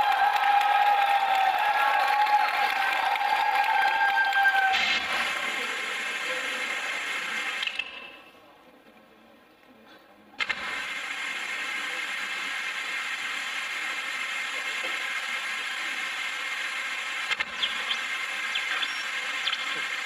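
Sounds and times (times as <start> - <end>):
steady hiss over sound system: 0.0 - 20.0.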